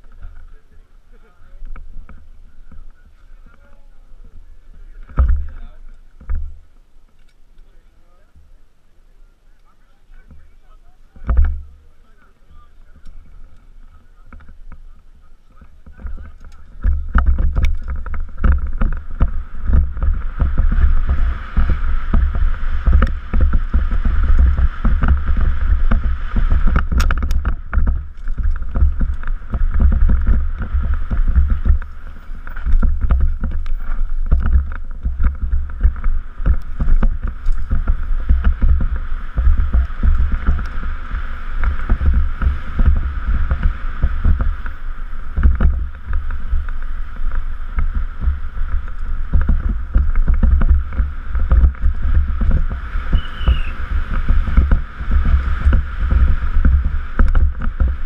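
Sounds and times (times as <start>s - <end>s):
bike rattling and knocking: 0.0s - 8.6s, 10.2s - 58.0s
wind rumble on microphone: 0.0s - 58.0s.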